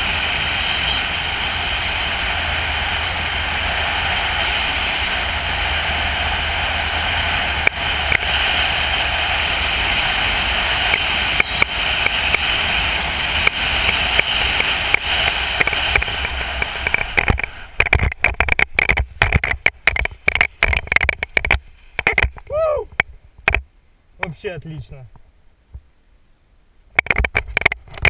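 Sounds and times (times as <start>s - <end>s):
wind rushing over microphone: 0.0s - 23.6s.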